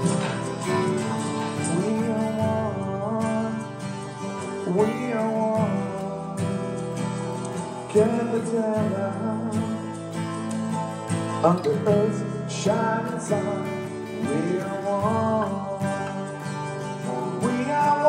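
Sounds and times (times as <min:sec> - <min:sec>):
man singing: 0:00.0 - 0:10.0, 0:11.4 - 0:18.0
acoustic guitar strumming: 0:00.0 - 0:18.0
recorded band track: 0:00.0 - 0:18.0.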